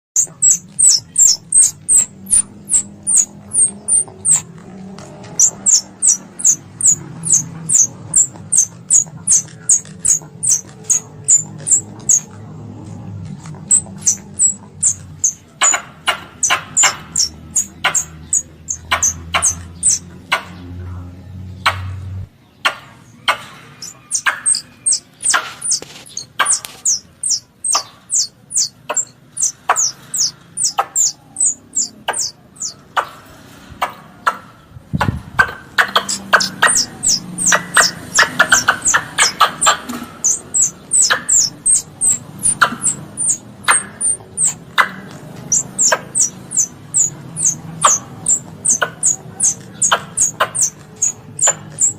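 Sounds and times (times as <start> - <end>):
squirrel calls high chips: 0.2 - 4.5, 5.3 - 12.3, 13.7 - 20.0, 23.8 - 32.8, 35.9 - 51.9.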